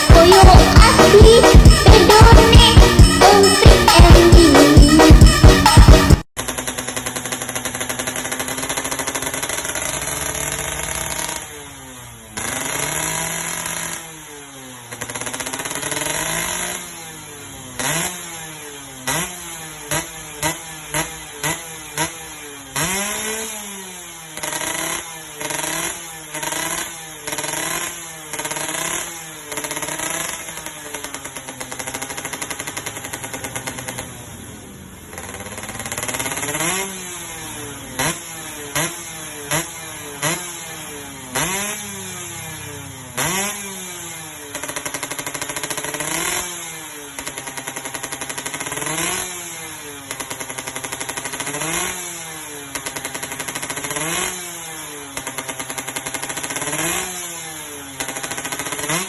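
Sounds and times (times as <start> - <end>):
moped engine idling and revving: 0.0 - 59.0.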